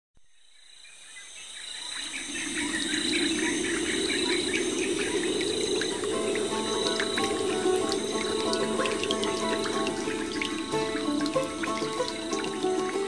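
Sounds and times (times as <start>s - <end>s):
crickets trilling: 0.2s - 13.0s
birds chirping: 0.4s - 13.0s
low steady rush: 1.9s - 13.0s.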